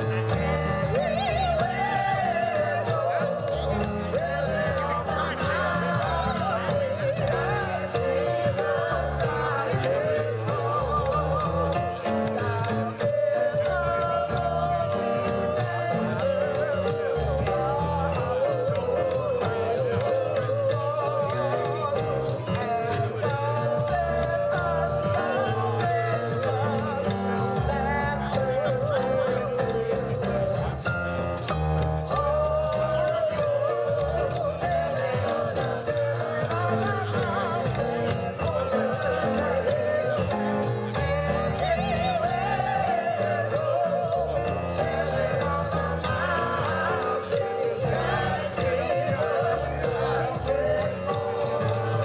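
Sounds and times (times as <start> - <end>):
christmas music melody: 0.0 - 52.0
jingle bells shaken: 0.0 - 52.0
steady bass: 0.0 - 52.0.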